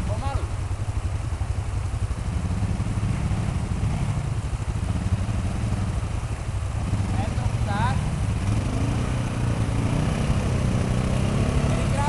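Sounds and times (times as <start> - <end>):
quad bike engine at low revs: 0.0 - 12.0
rushing water: 0.0 - 12.0.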